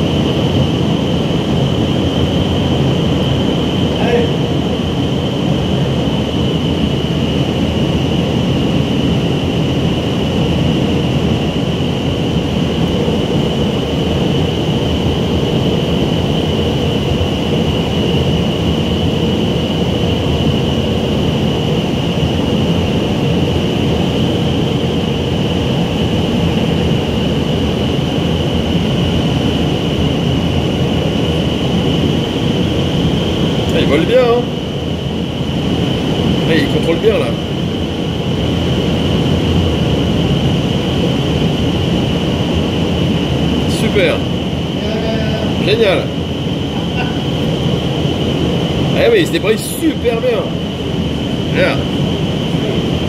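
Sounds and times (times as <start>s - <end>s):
high whine: 0.0s - 53.0s
loud rush of air: 0.0s - 53.0s.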